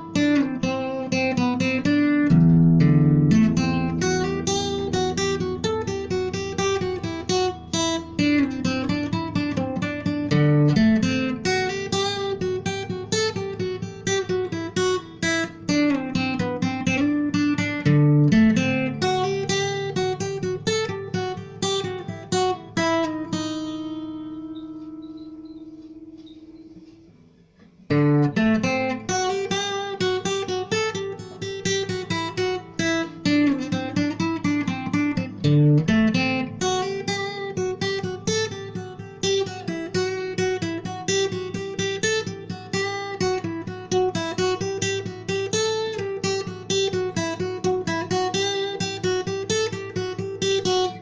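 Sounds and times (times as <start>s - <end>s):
acoustic guitar instrumental: 0.0s - 51.0s.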